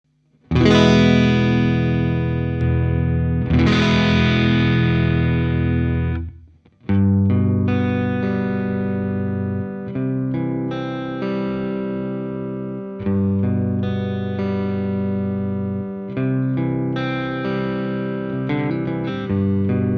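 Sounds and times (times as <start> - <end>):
distorted electric guitar chords: 0.3 - 19.9
electric guitar riff: 0.4 - 19.9.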